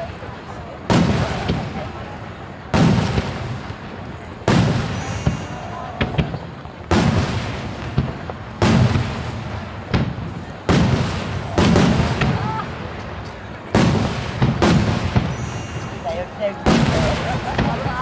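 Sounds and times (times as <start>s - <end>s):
firework shells booming: 0.8s - 2.0s, 2.7s - 18.0s
sharp firework cracks: 0.8s - 2.0s, 2.7s - 18.0s.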